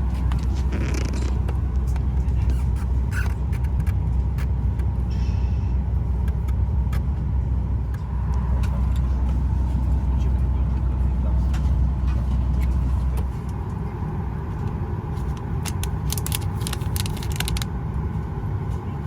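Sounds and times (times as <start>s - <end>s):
low air-conditioning rumble: 0.0s - 19.0s.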